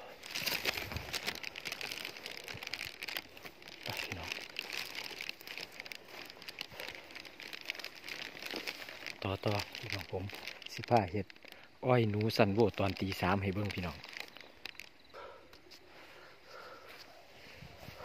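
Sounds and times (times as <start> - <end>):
stems brushing and snapping: 0.0 - 16.0
footsteps through dry brush: 0.0 - 18.0.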